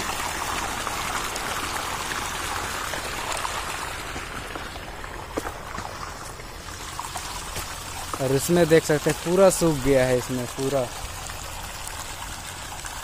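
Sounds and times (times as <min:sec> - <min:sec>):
water pouring into a flooded field: 0:00.0 - 0:13.0.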